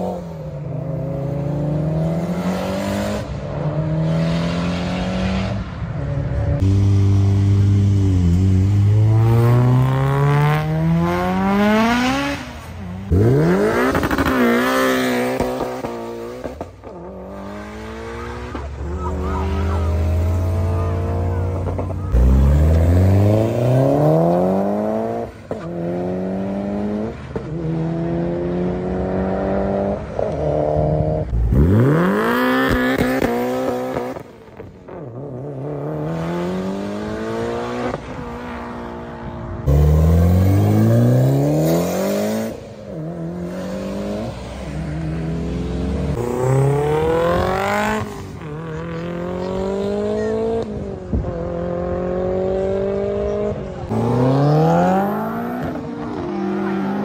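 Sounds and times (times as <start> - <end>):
cars accelerating hard: 0.0 - 57.0.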